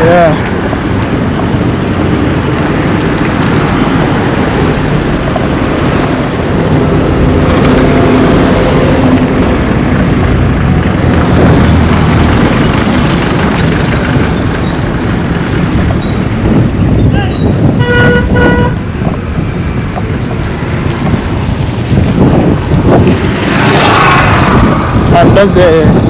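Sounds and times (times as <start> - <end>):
engine hum: 0.0 - 25.8
vehicles driving past: 0.0 - 26.0.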